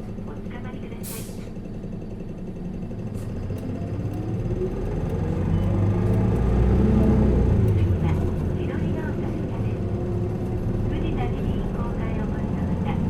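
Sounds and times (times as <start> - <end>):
bus engine accelerating: 0.0 - 13.0.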